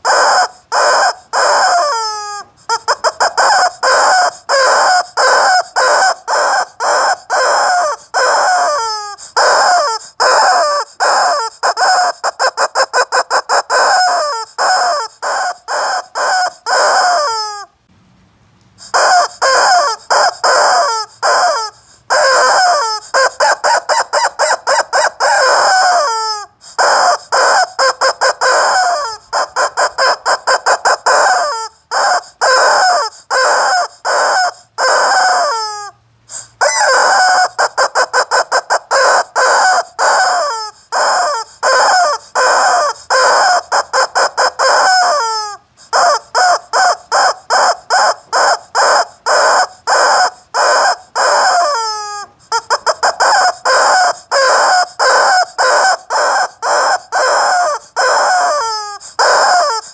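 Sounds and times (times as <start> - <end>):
rubber chicken toy squawking: 0.0 - 17.8, 18.8 - 59.9.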